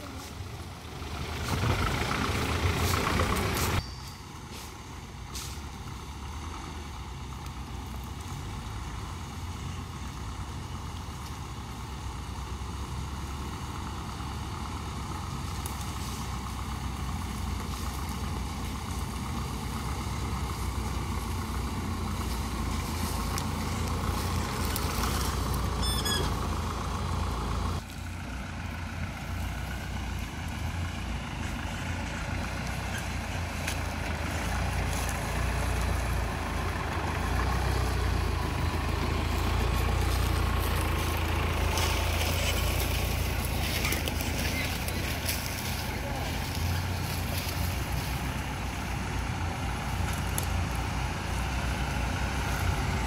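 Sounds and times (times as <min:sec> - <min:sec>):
off-road vehicle engines rumbling: 0:00.0 - 0:53.0.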